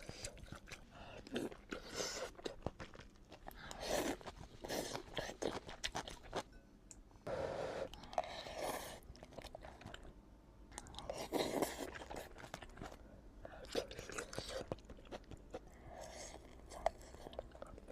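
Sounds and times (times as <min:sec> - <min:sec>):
chewing and crunching food: 0:00.0 - 0:06.5, 0:07.9 - 0:17.9.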